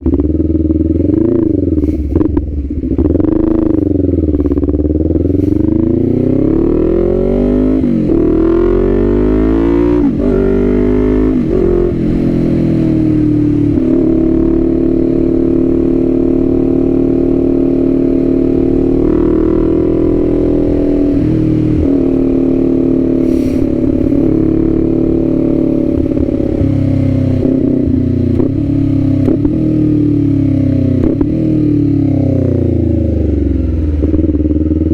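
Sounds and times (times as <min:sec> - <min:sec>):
motorcycle engine shifting gears: 0:00.0 - 0:34.9.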